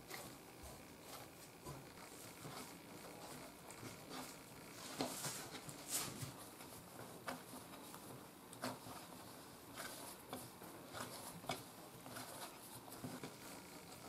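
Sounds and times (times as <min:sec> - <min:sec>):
dough kneaded on wooden board: 0:00.0 - 0:14.0.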